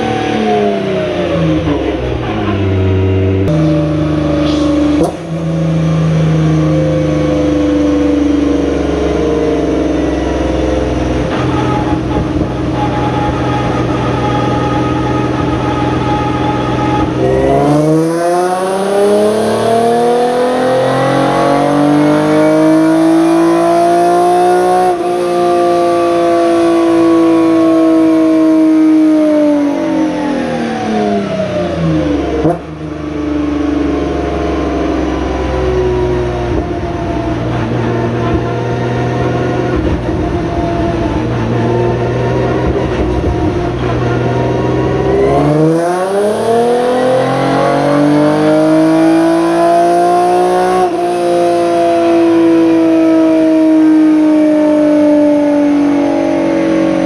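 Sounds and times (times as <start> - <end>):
car engine on dynamometer: 0.0 - 57.0.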